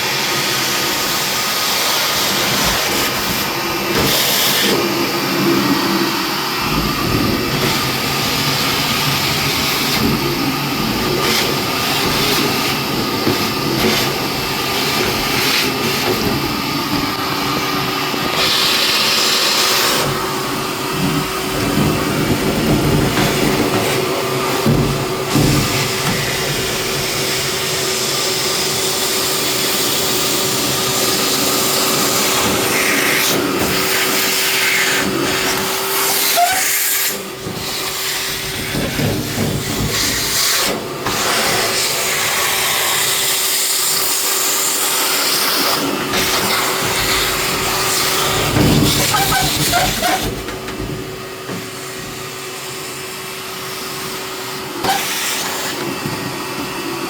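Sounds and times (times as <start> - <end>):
vacuum cleaner whine: 0.0 - 57.0.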